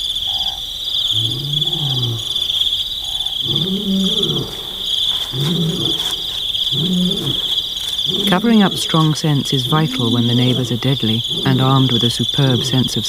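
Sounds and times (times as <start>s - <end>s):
crickets chirring: 0.0s - 13.0s
wild cat low calls: 0.2s - 13.0s.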